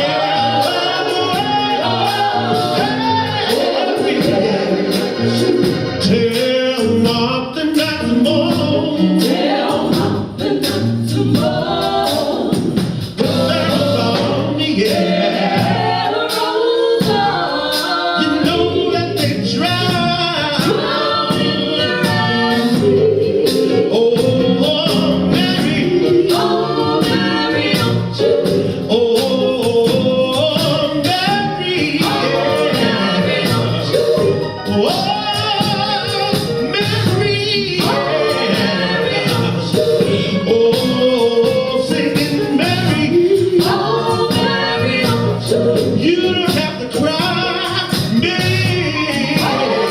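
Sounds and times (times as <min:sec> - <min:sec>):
gospel choir singing: 0:00.0 - 0:49.9
instrumental accompaniment with beat: 0:00.0 - 0:49.9.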